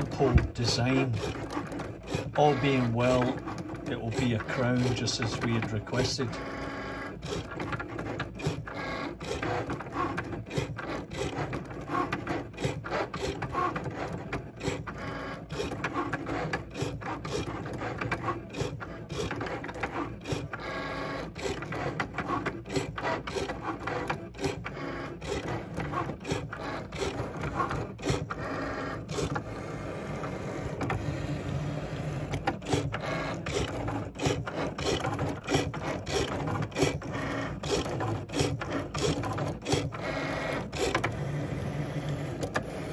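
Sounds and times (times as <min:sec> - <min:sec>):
cutting machine motors whirring: 0:00.0 - 0:42.9.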